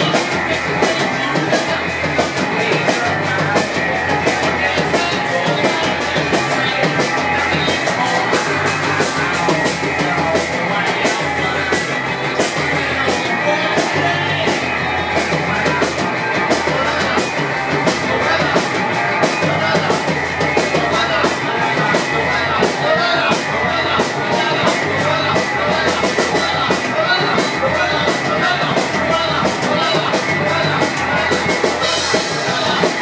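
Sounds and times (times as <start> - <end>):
bass guitar: 0.0 - 33.0
drum kit: 0.0 - 33.0
electric guitar: 0.0 - 33.0.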